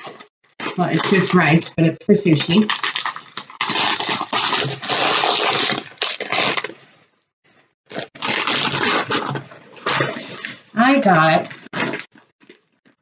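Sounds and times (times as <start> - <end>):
plastic bags rustling and crinkling: 0.0 - 7.0, 7.9 - 13.0.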